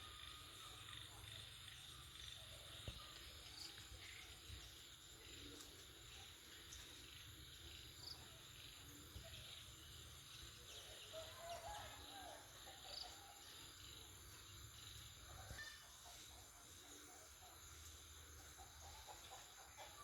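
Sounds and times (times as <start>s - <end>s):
high insect-like hiss: 0.0s - 20.0s.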